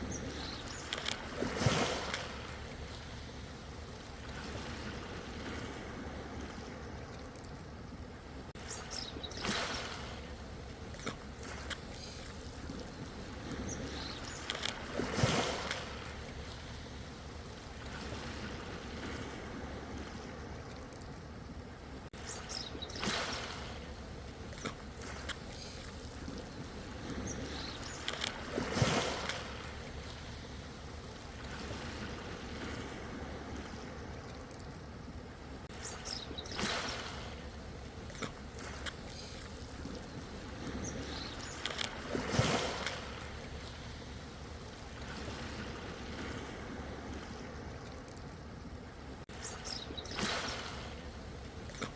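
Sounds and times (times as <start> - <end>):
ocean waves breaking: 0.0 - 7.2, 7.8 - 20.7, 21.8 - 51.9
low rumble of water: 0.0 - 51.9.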